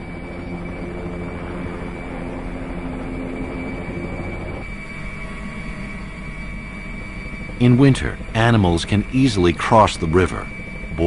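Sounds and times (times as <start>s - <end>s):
helicopter rumble and whine: 0.0s - 11.0s.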